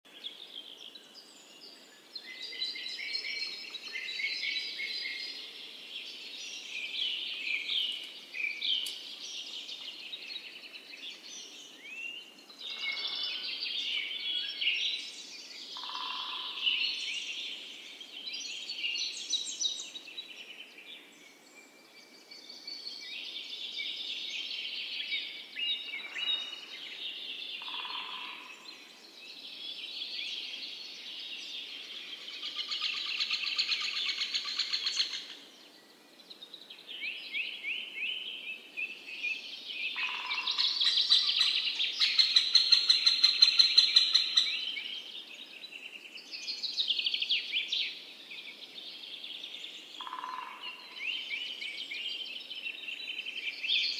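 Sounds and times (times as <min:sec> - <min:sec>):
songbirds chirping and singing: 0:00.1 - 0:53.9.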